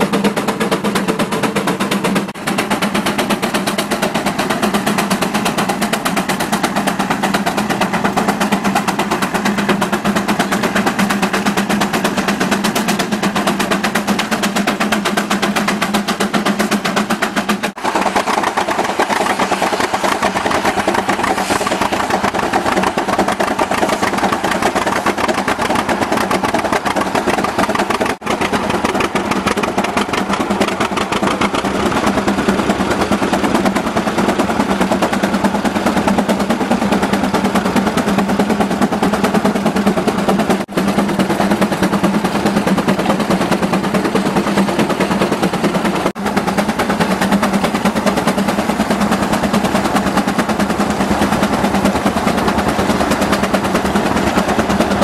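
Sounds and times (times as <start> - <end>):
steam engine exhaust beating: 0.0 - 55.0.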